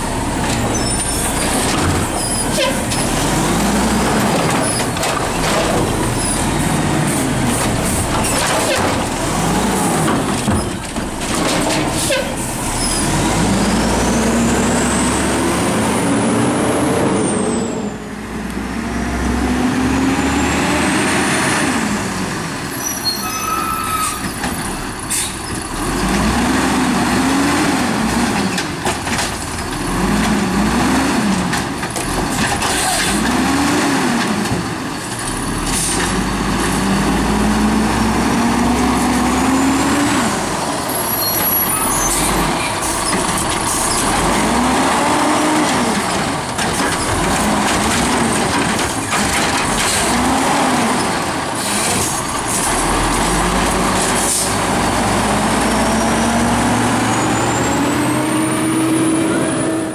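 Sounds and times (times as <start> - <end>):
diesel engine revving: 0.0 - 22.7, 24.7 - 28.6, 29.5 - 59.9.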